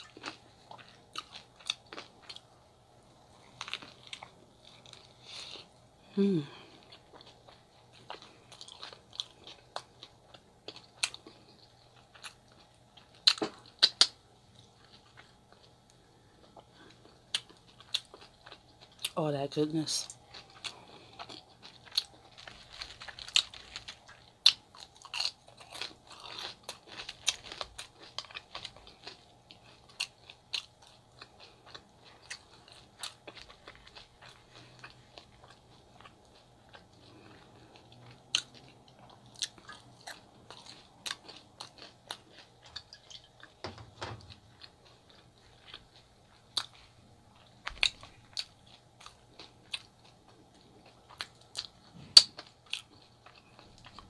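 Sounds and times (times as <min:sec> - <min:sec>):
close chewing and biting: 0:00.0 - 0:02.5, 0:03.3 - 0:05.7, 0:06.4 - 0:54.0.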